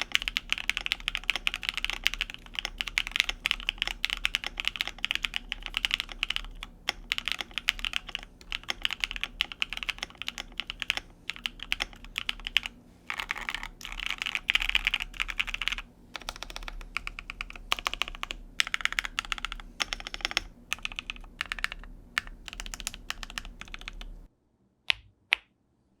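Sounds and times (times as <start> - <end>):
mechanical keyboard typing: 0.0 - 24.2.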